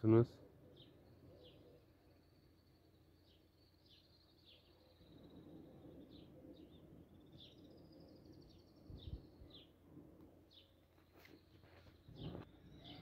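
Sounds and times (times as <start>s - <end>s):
faint bird chirps: 0.0s - 9.8s, 10.5s - 13.0s.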